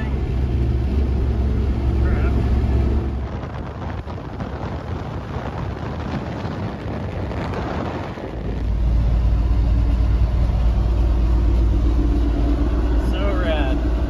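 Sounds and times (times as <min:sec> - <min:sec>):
pickup engine and tyres droning: 0:00.0 - 0:14.0
wind and road noise: 0:00.0 - 0:14.0.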